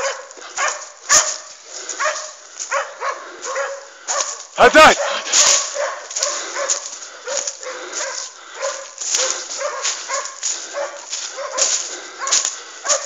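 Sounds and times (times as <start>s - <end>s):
dry leaves rustling: 0.0s - 13.0s
hounds yelping barks: 0.0s - 13.0s.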